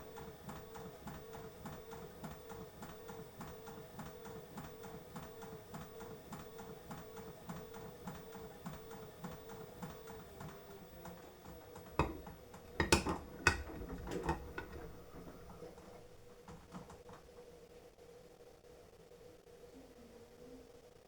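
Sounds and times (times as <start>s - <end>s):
washing machine motor hum: 0.0s - 18.3s.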